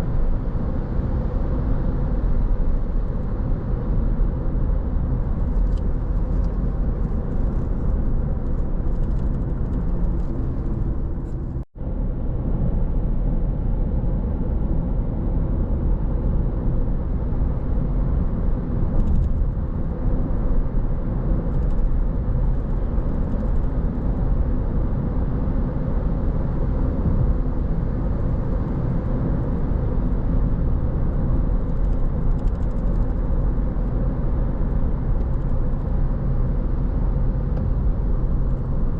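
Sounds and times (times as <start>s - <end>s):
car driving on road: 0.0s - 38.9s.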